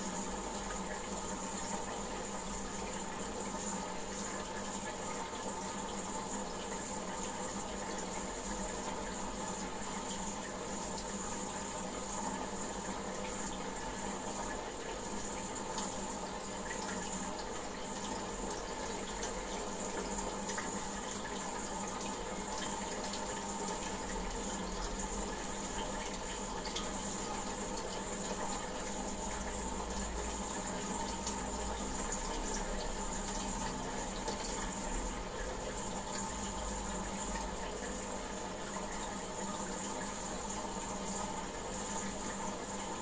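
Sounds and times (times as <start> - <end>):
aquarium water running and splashing: 0.0 - 43.0.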